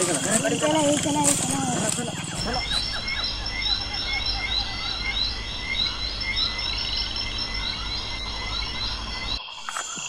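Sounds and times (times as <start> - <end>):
frogs chirping: 0.0 - 10.0
insect trills: 0.0 - 10.0.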